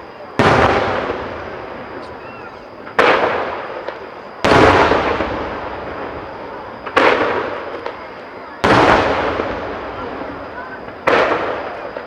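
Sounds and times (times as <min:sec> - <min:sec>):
firework shells booming with echo: 0:00.0 - 0:12.0.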